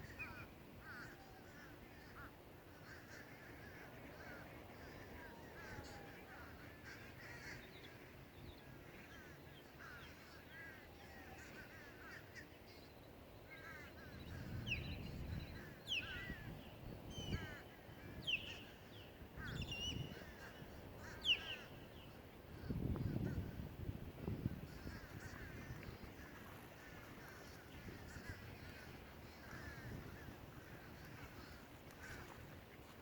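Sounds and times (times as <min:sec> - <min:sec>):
flock of birds calling: 0:00.0 - 0:23.7, 0:24.3 - 0:33.0.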